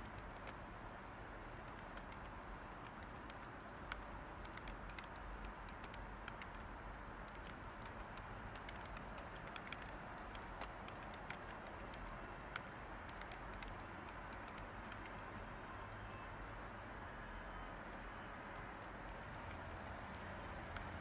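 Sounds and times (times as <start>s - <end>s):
typing on a computer keyboard: 0.0s - 0.7s, 1.5s - 16.1s, 18.7s - 21.0s
white-noise hiss: 0.0s - 21.0s.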